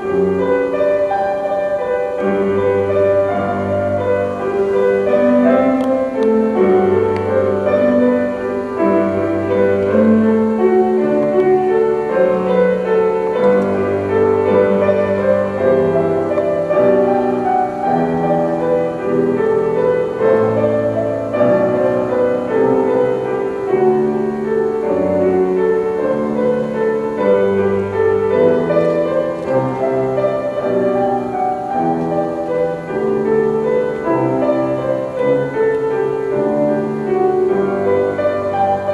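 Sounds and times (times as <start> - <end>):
slow classical piano music: 0.0 - 38.9.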